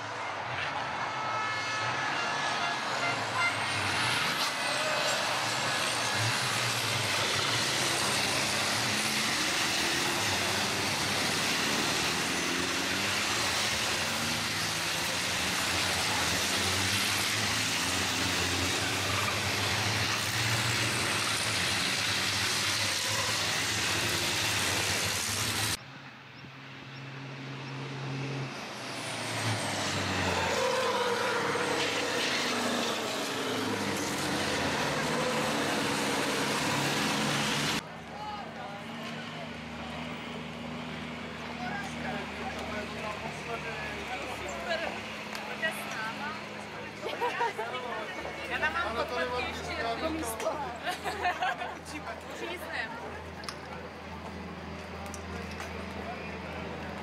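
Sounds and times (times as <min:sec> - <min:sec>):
diesel truck engines running hard: 0:00.0 - 0:57.0.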